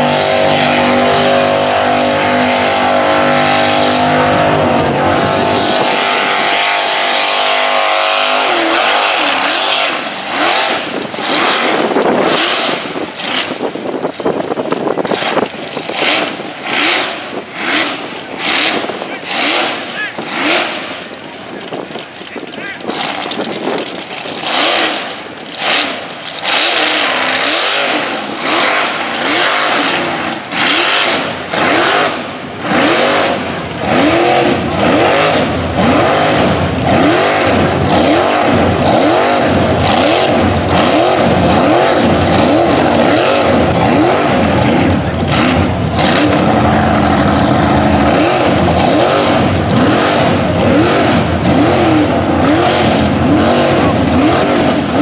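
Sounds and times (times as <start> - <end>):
tires spinning in mud: 0.0 - 55.0
truck engine revving: 0.0 - 55.0.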